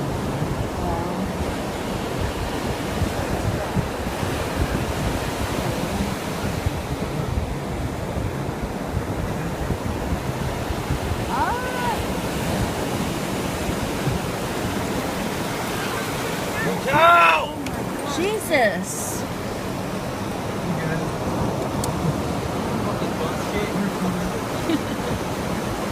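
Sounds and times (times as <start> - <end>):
ocean waves washing in: 0.0 - 25.9
wind rumbling on microphone: 0.0 - 25.9.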